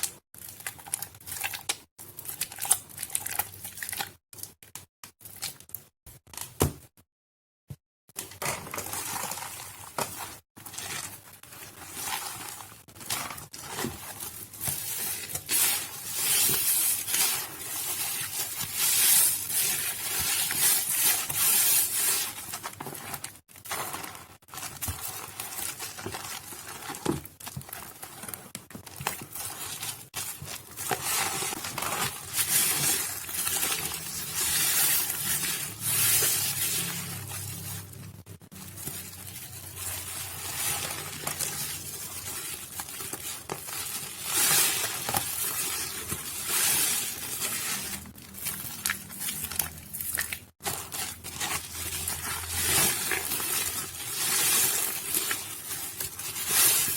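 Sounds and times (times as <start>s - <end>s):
wet soap crackling and crunching: 0.0s - 6.6s, 8.2s - 56.9s.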